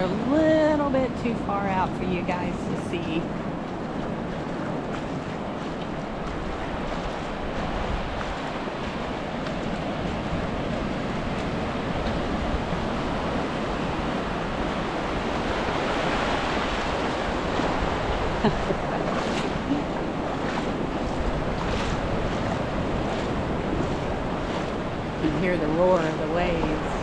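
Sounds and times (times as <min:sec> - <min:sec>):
surf waves breaking: 0:00.0 - 0:27.0.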